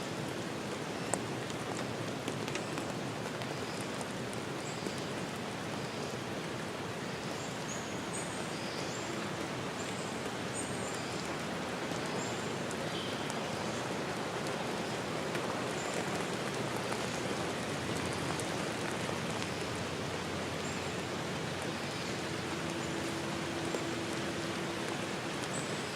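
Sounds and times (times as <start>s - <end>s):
rushing water: 0.0s - 25.9s.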